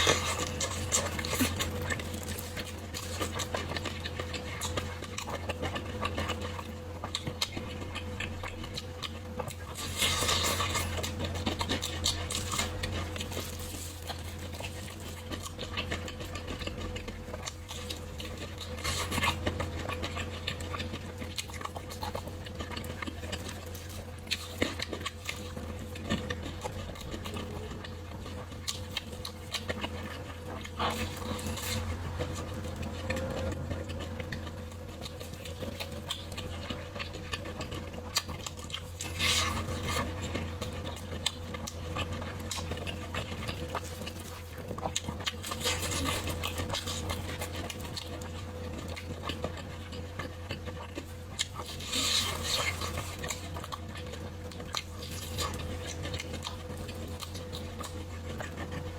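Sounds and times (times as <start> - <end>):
chewing and wet mouth noises: 0.0 - 58.9
steady low hum: 0.0 - 58.9.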